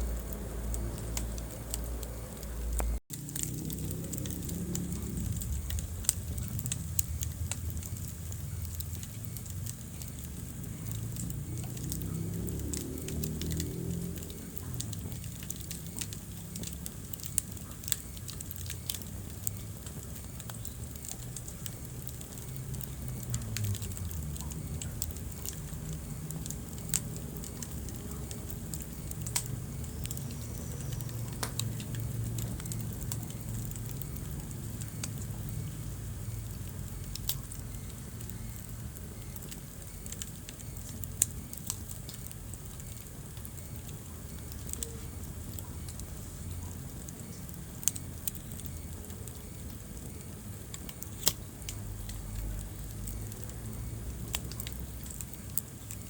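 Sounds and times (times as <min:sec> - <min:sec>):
burning logs crackling: 0:00.0 - 0:56.0
wood fire rumbling: 0:00.0 - 0:56.0.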